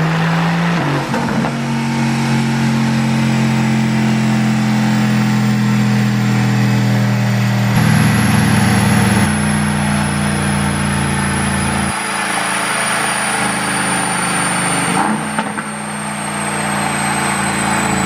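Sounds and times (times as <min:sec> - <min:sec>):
car engine running on dyno: 0:00.0 - 0:18.0.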